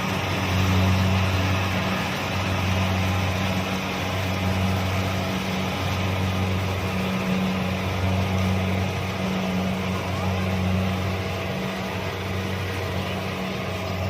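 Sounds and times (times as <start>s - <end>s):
combine harvester engine drone: 0.0s - 14.0s
harvesting machinery rush: 0.0s - 14.0s.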